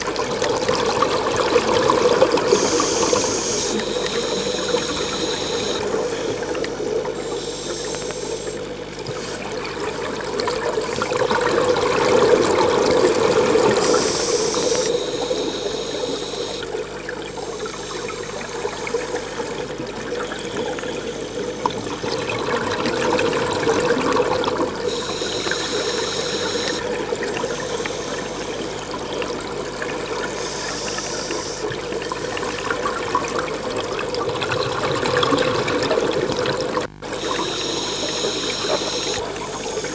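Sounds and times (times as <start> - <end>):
underwater breathing bubbles: 0.1 - 39.9.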